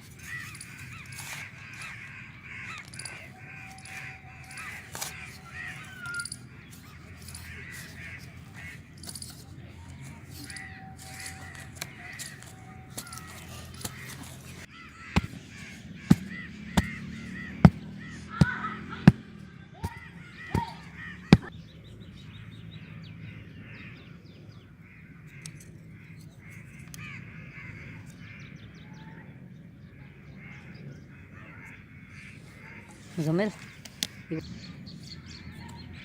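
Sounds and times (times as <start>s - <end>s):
crows cawing: 0.0s - 21.5s, 22.2s - 36.0s.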